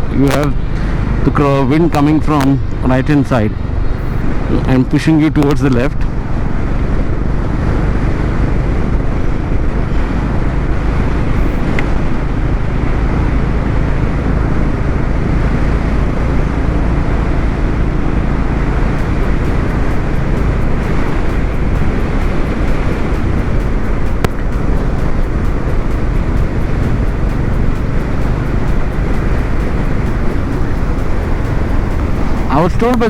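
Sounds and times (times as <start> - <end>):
motorcycle engine drone: 0.0 - 33.0
wind rushing on microphone: 0.0 - 33.0.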